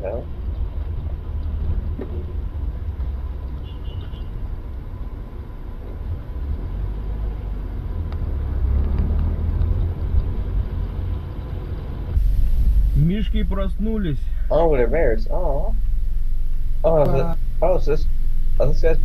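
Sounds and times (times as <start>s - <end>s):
vehicle rumbling on road: 0.0s - 19.0s.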